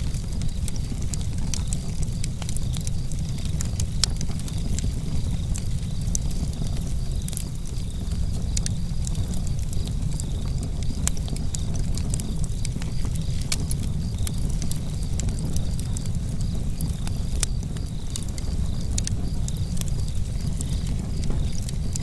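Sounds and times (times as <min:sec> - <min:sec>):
campfire crackling and popping: 0:00.0 - 0:22.0
crickets chirping: 0:00.0 - 0:22.0.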